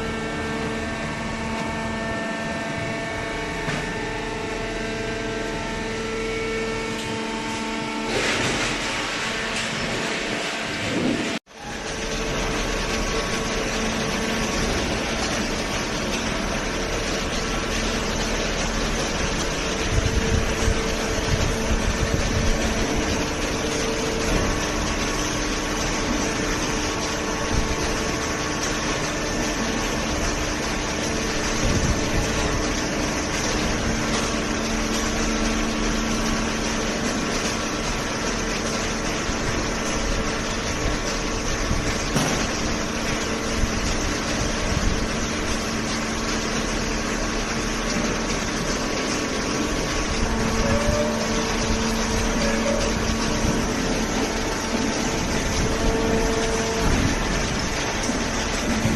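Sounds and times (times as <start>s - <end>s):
hydraulic pump hum and whine: 0.0s - 58.9s.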